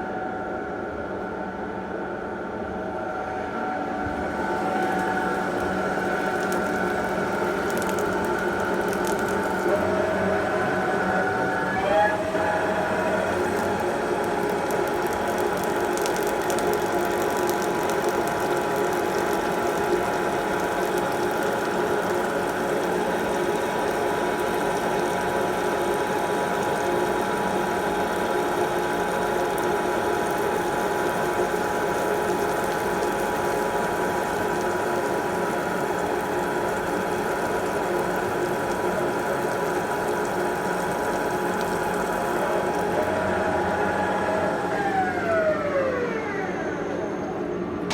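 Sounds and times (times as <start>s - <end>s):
lathe mechanical whine and rattle: 2.2s - 47.9s.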